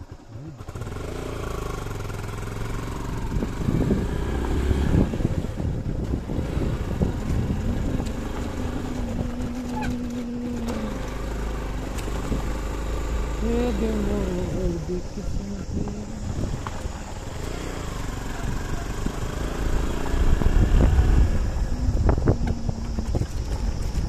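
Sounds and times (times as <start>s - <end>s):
motorcycle engine running: 0.0s - 24.0s
tyres rumbling on gravel: 0.0s - 24.0s.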